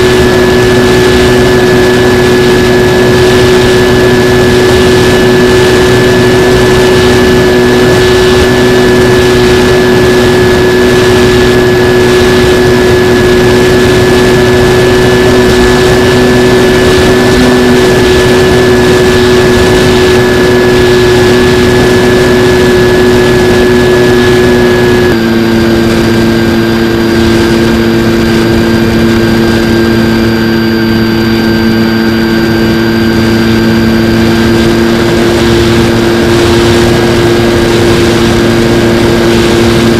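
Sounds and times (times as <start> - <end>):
electric propeller motor droning: 0.0 - 39.9
wind noise: 0.0 - 39.9.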